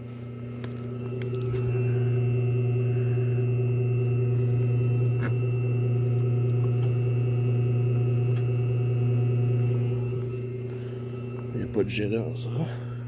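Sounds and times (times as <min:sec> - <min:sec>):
pump motor humming: 0:00.0 - 0:13.0.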